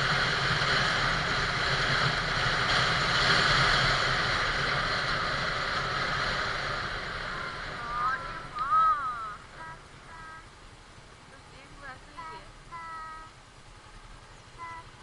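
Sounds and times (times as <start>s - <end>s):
motorcycle engine hum: 0.0s - 15.0s
wind and road noise: 0.0s - 15.0s.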